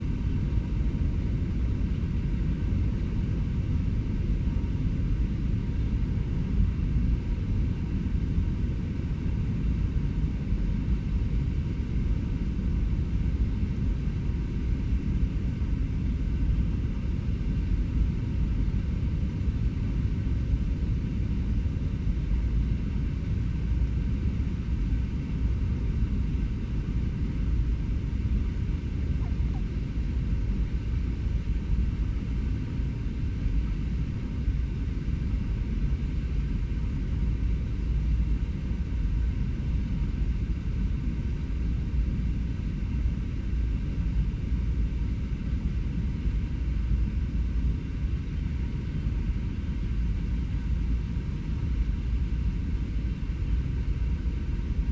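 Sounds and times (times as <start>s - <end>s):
faint steady hums: 0.0s - 54.9s.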